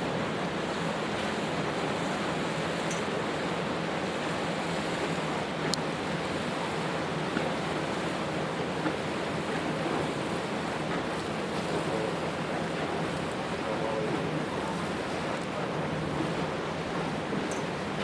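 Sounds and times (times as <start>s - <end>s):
boat engine hum: 0.0s - 18.0s
water rushing: 0.0s - 18.0s.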